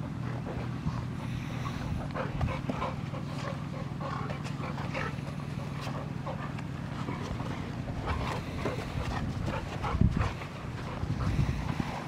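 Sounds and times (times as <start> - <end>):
dogs playing and scuffling: 0.0 - 12.0
steady low hum: 0.0 - 12.0.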